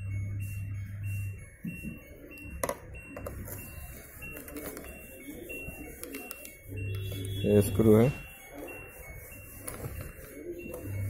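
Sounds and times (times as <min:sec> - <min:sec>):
electronic beeping tune: 0:00.0 - 0:11.0.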